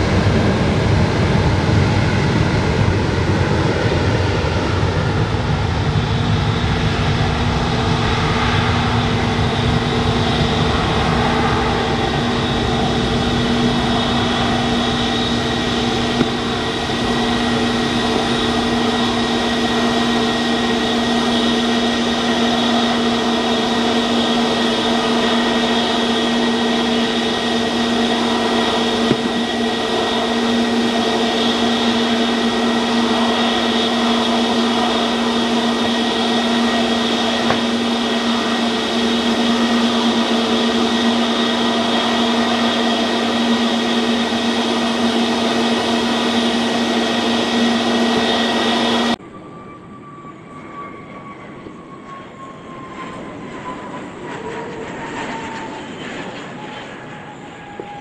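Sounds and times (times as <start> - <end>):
jet engines whining drone: 0.0 - 58.0.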